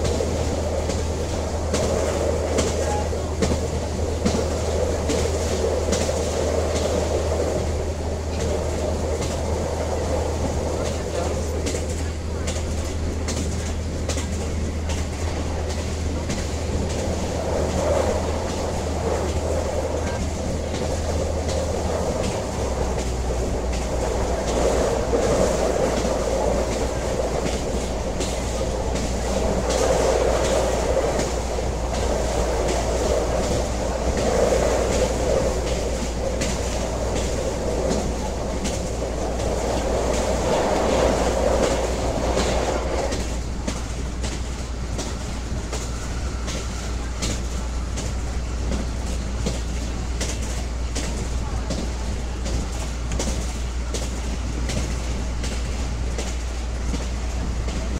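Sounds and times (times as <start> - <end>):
train rumbling on rails: 0.0 - 57.9
train wheel clicks: 0.0 - 57.9.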